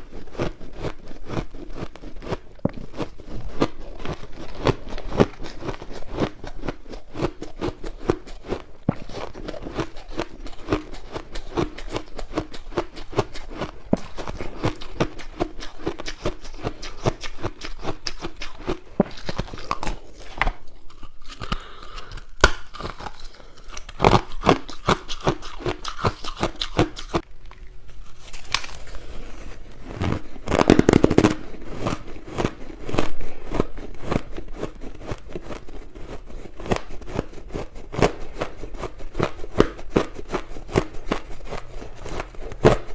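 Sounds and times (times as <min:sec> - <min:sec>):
crunching ice being chewed: 0:00.0 - 0:42.9.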